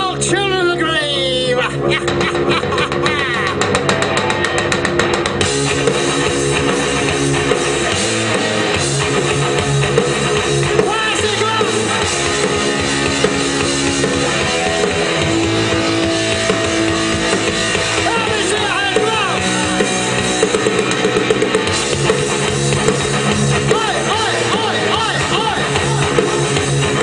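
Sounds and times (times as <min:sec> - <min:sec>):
held electric guitar chords: 0:00.0 - 0:27.0
live rock band playing: 0:00.0 - 0:27.0
rapid drum hits: 0:02.1 - 0:27.0.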